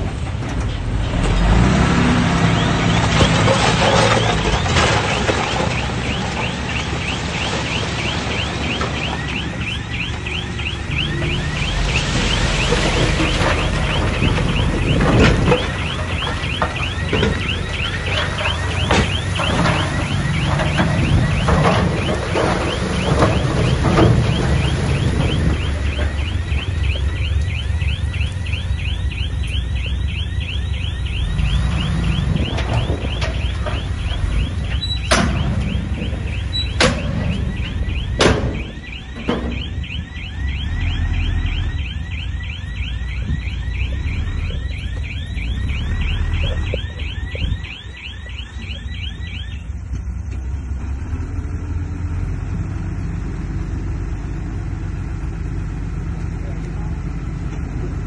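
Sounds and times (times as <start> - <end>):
bulldozer diesel engine running: 0.0 - 58.0
sharp bangs: 1.1 - 49.6.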